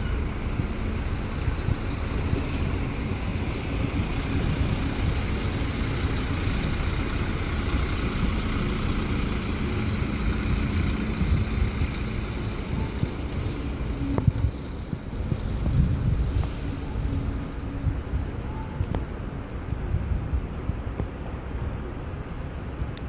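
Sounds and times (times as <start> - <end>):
diesel train engine drone: 0.0 - 23.0
rail noise: 0.0 - 23.0
wind buffeting microphone: 0.0 - 23.0.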